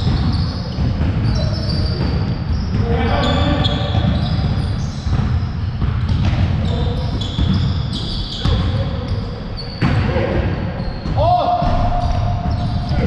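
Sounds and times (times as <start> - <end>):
basketballs bouncing on gym court: 0.0 - 13.0.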